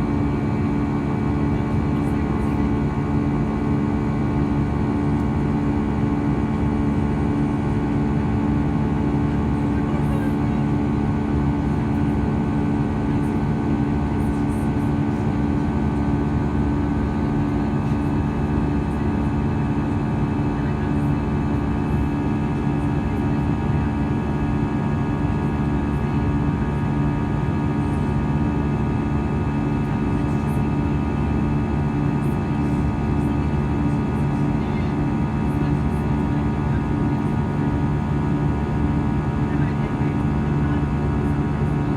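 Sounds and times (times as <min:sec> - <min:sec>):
airliner cabin engine rush: 0:00.0 - 0:41.9.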